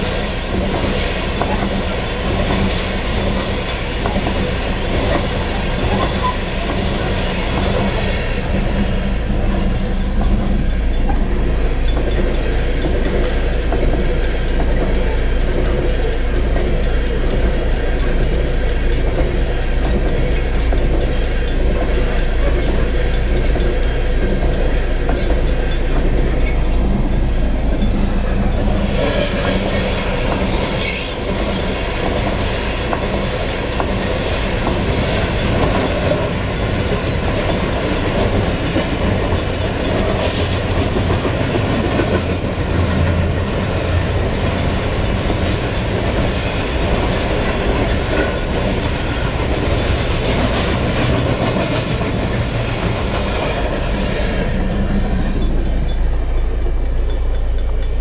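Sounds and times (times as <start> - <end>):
freight train rumbling past: 0.0 - 58.0
wheels clattering over rail joints: 0.0 - 58.0.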